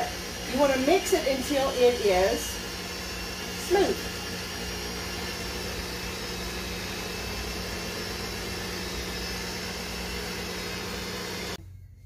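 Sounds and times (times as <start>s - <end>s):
electric mixer running: 0.0s - 11.6s.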